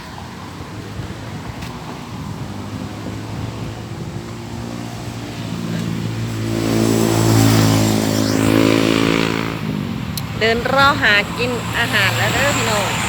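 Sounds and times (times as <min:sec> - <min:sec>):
vehicle engine passing by: 0:00.0 - 0:13.0.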